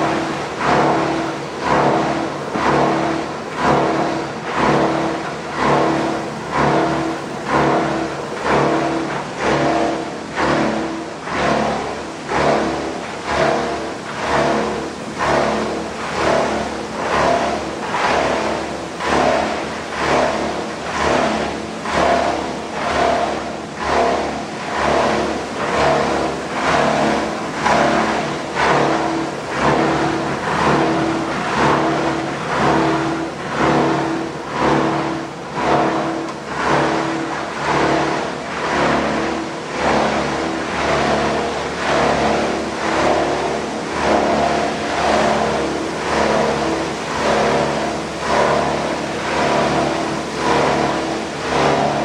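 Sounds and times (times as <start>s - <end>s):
bottle washing machine running: 0.0s - 52.0s.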